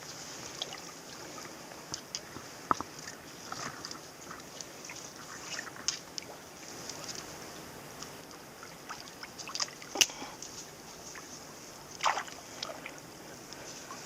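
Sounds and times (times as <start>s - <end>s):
small river running: 0.0s - 14.0s.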